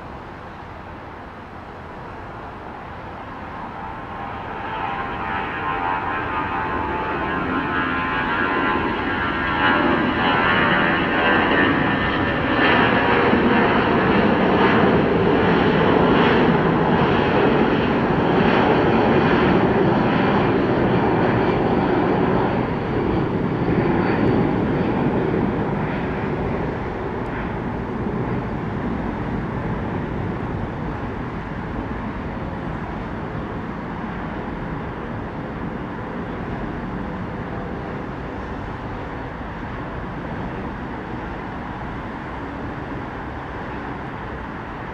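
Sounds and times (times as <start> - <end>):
jet engines at takeoff: 0.0 - 44.9.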